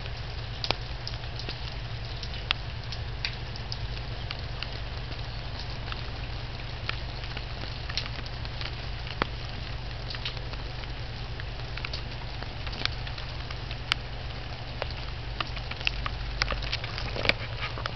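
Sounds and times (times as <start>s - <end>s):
constant low hum: 0.0s - 17.9s
rain hissing: 0.0s - 17.9s
sharp rain drop taps: 0.0s - 17.9s.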